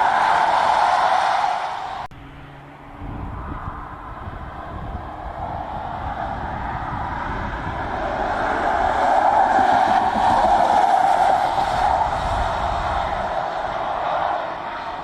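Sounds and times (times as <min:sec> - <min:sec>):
car tyre noise: 0:00.0 - 0:02.1, 0:02.8 - 0:15.0.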